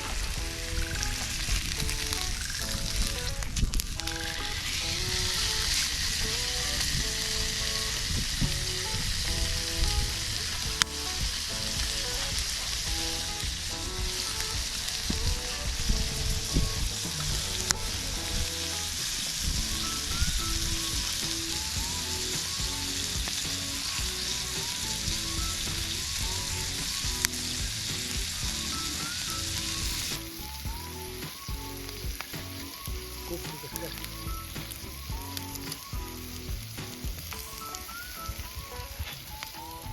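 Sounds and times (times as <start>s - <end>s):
food sizzling in a pan: 0.0s - 39.9s
light melody: 0.0s - 39.9s.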